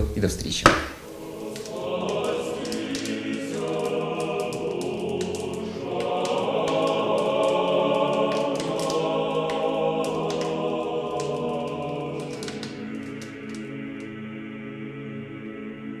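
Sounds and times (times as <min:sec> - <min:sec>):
irregular crackles: 0:00.4 - 0:15.0
choir singing sustained chords: 0:01.0 - 0:16.0.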